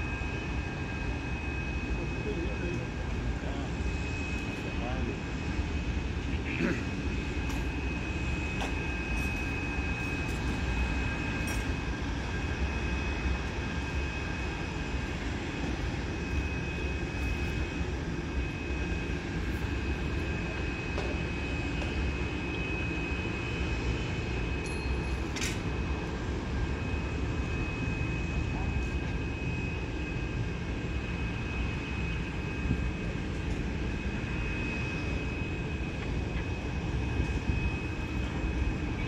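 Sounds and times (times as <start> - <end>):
jet engine high-pitched whine: 0.0 - 39.0
jet engines low rumble: 0.0 - 39.0.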